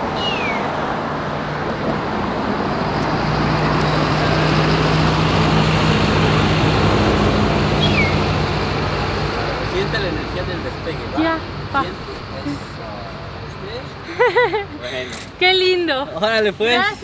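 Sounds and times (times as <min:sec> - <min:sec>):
bus engine hum: 0:00.0 - 0:17.0
city street traffic: 0:00.0 - 0:17.0.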